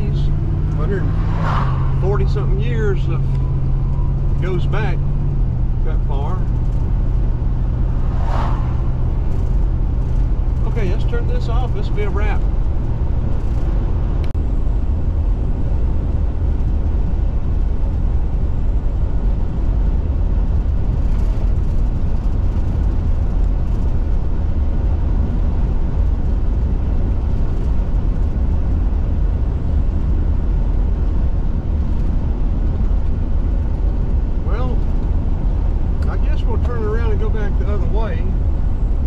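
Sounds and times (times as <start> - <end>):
car engine rumbling: 0.0 - 39.0
road noise: 0.0 - 39.0.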